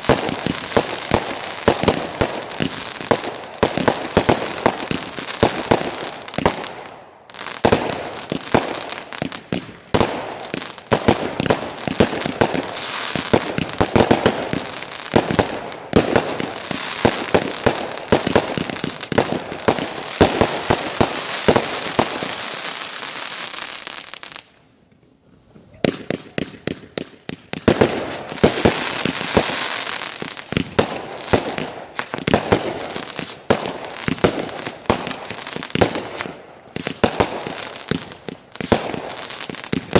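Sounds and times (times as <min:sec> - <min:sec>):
fireworks bangs and crackling: 0:00.0 - 0:24.6, 0:25.6 - 0:39.9.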